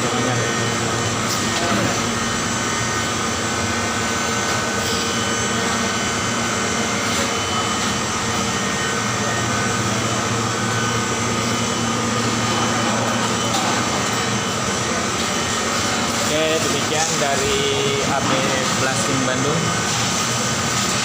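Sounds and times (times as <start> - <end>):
freezer fan and compressor drone: 0.0 - 21.0.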